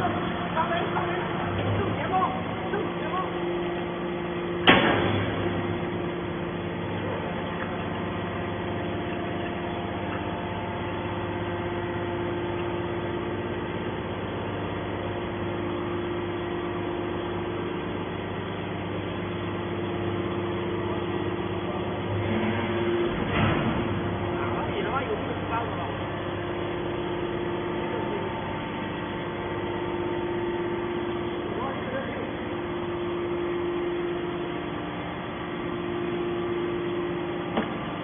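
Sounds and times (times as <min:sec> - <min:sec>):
hydraulic baler motor humming: 0:00.0 - 0:38.0.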